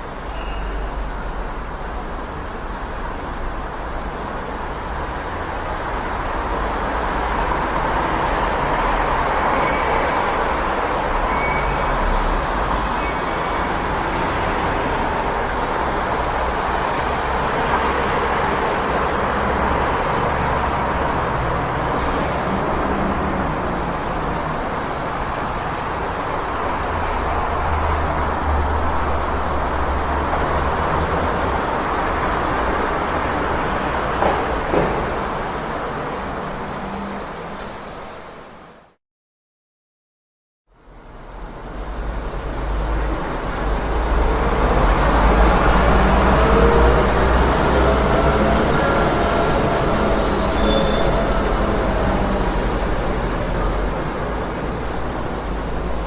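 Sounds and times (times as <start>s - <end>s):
passing street traffic: 0.0s - 39.0s, 40.7s - 56.0s.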